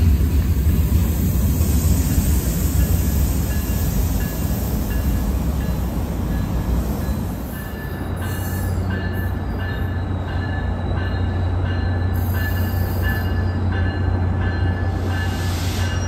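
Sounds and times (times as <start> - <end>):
train engine rumble: 0.0 - 16.0.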